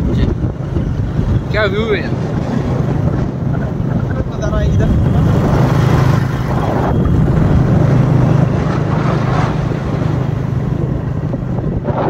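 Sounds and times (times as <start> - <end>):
road noise: 0.0 - 12.0
rushing wind: 0.0 - 12.0
vehicle engine hum: 0.0 - 12.0.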